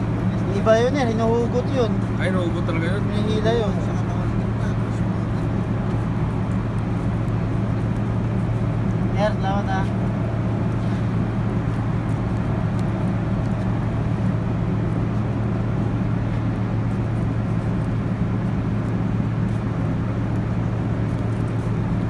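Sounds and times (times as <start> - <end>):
ship machinery drone: 0.0 - 22.0.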